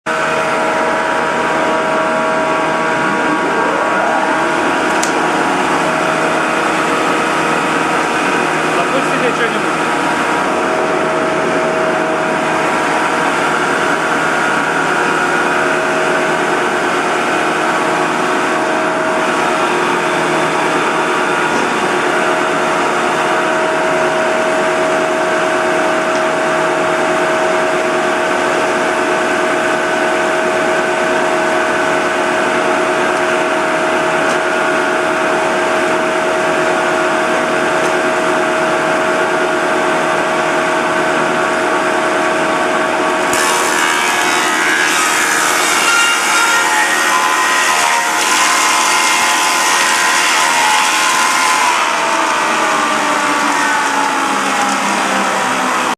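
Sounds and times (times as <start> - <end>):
planer machine whining: 0.1 - 55.9.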